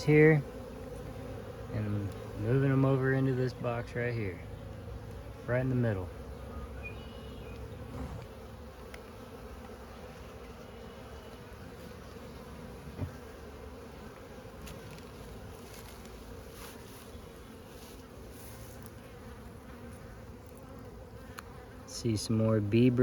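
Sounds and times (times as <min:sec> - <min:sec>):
honeybee colony buzzing: 0:00.0 - 0:23.0.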